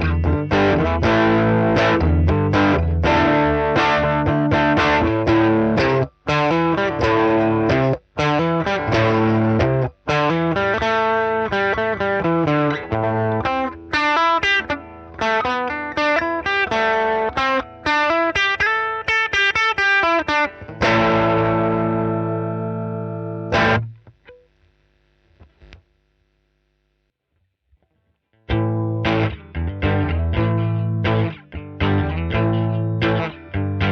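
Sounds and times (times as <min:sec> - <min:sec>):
fuzz-distorted electric guitar: 0:00.0 - 0:27.1, 0:28.5 - 0:33.9.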